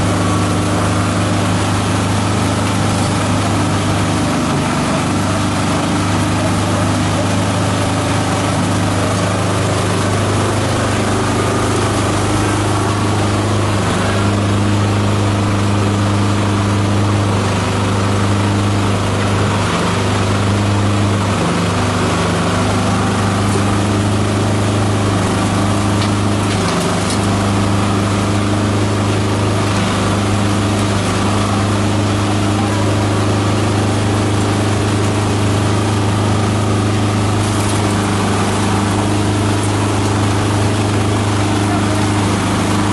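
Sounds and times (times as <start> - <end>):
shredder machine humming: 0.0 - 42.9.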